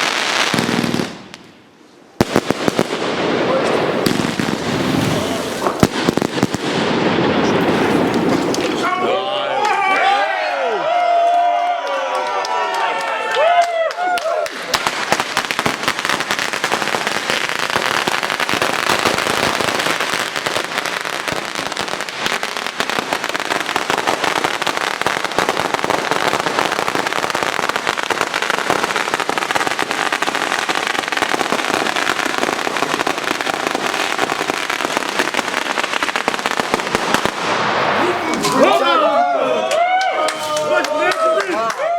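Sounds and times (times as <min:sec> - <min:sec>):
fireworks crackling and popping: 0:00.0 - 0:09.7, 0:14.4 - 0:38.8, 0:39.8 - 0:41.7.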